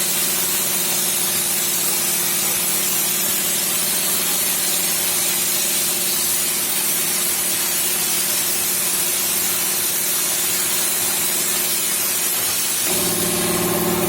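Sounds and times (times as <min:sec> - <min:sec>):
plasma torch air hiss: 0:00.0 - 0:14.0.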